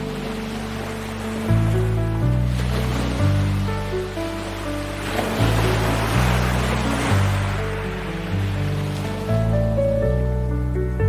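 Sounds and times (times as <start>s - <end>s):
slow ambient music: 0.0s - 11.0s
soft surf: 0.0s - 11.0s.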